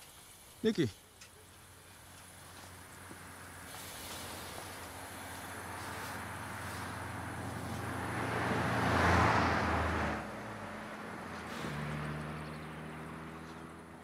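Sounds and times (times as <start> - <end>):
car driving past: 2.4 - 14.0.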